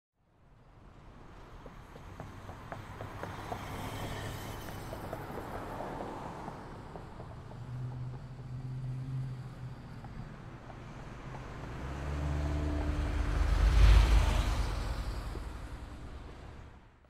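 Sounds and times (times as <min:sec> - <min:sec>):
vehicle engine hum: 0:00.6 - 0:17.0.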